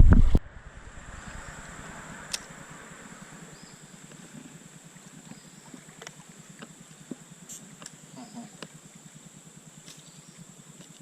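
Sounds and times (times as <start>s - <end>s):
low water rush: 0.0s - 11.0s
steady high-pitched drone: 0.4s - 11.0s.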